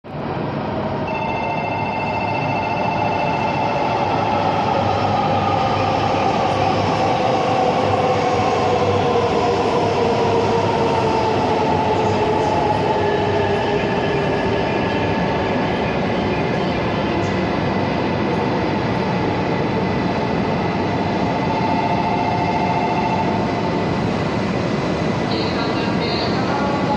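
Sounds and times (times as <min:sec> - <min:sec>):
train rolling to a stop: 0:00.1 - 0:26.9.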